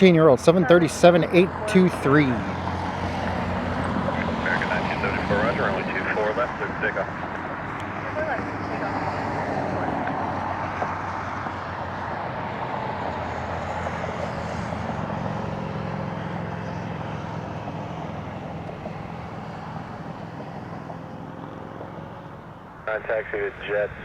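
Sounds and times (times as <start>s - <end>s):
jet engines at takeoff thrust: 0.0s - 24.0s.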